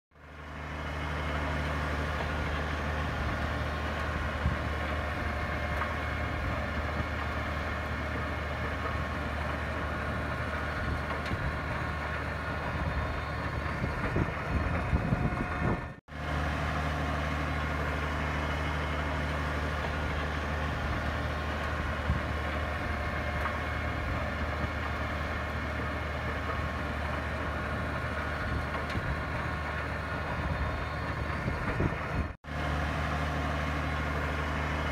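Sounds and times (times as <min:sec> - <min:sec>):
rotary tiller whine: 0:00.1 - 0:34.9
tractor engine running under load: 0:00.1 - 0:34.9.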